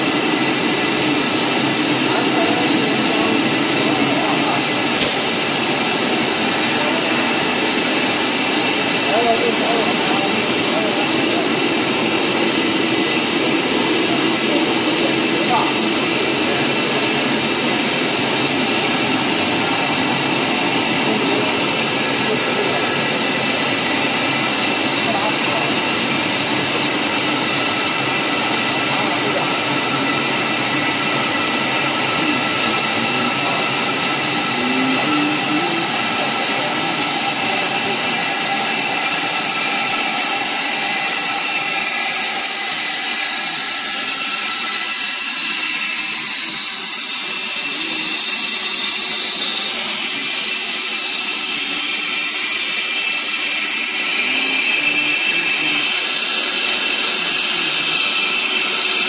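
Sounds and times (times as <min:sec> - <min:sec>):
extrusion machine noise: 0:00.0 - 0:59.0
high machine whines: 0:00.0 - 0:59.0.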